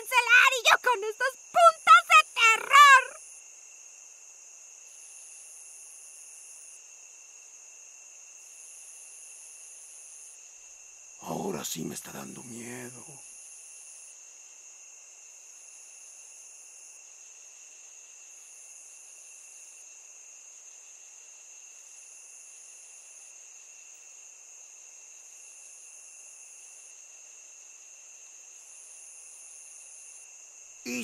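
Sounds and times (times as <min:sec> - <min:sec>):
crickets chirring: 0:00.0 - 0:31.0
high insect trill: 0:00.0 - 0:31.0.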